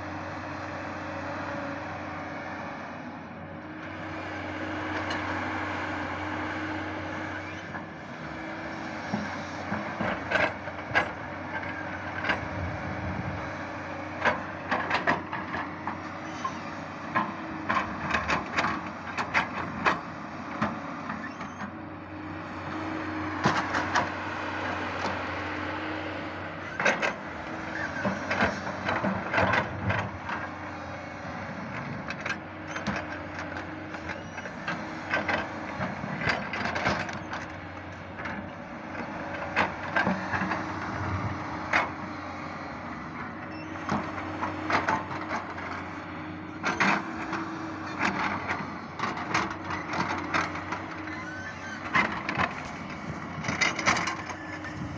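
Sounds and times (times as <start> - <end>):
excavator diesel engine running: 0.0 - 54.9
excavator clanks and knocks: 7.2 - 21.9, 22.7 - 25.4, 26.4 - 54.9.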